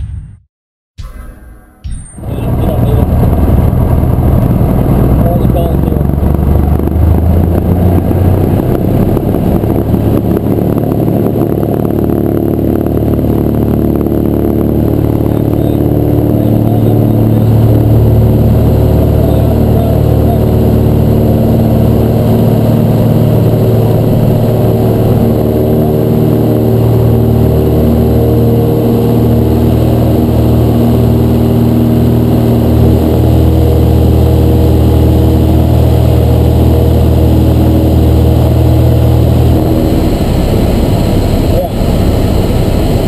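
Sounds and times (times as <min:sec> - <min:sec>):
propeller plane engine drone: 0:01.3 - 0:43.0.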